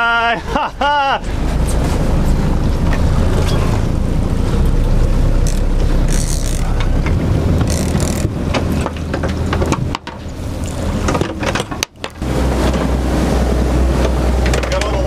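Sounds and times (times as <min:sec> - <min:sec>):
boat engine running: 0:00.0 - 0:15.0
wind rumbling on microphone: 0:01.2 - 0:15.0.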